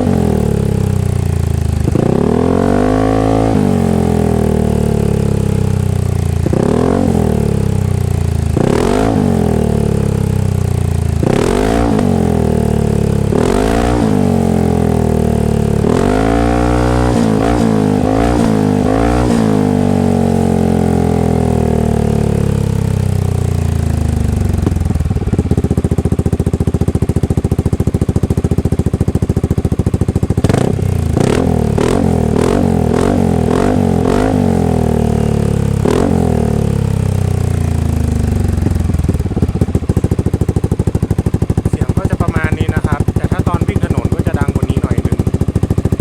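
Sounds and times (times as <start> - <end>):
scooter engine idling and revving: 0.0 - 46.0.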